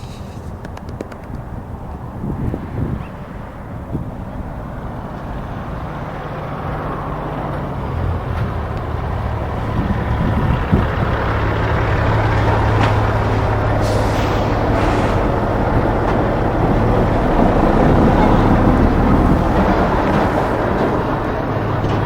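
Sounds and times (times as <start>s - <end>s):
train approaching: 1.7s - 22.0s.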